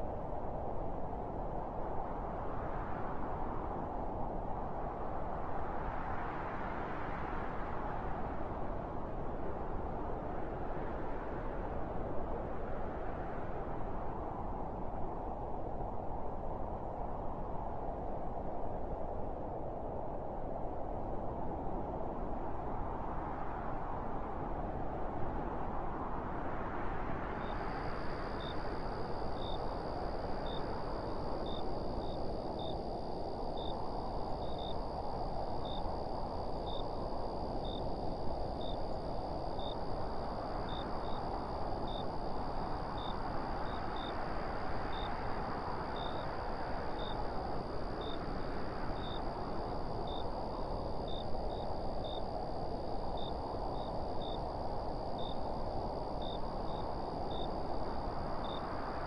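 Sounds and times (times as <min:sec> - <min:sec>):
wind gusts: 0:00.0 - 0:59.0.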